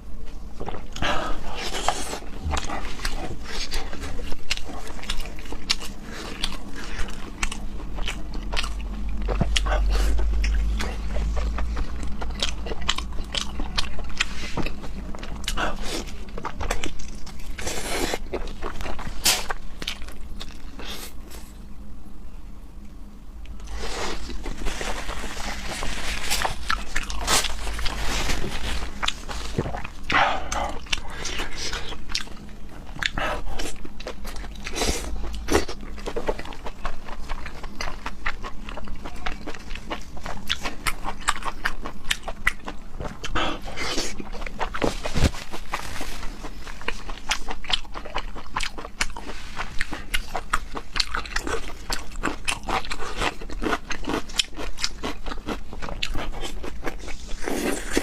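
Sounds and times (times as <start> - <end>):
person chewing and crunching: 0.3 - 21.6, 23.5 - 58.0.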